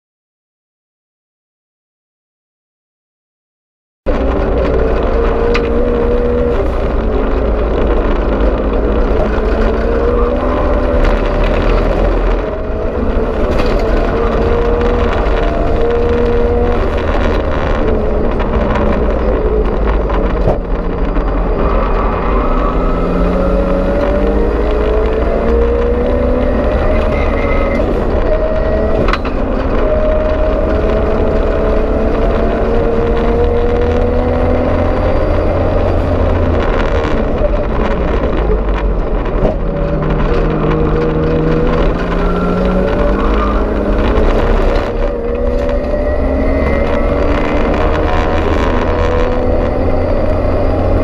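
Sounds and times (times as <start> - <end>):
race car engine revving: 4.1 - 51.0
road noise: 4.1 - 51.0.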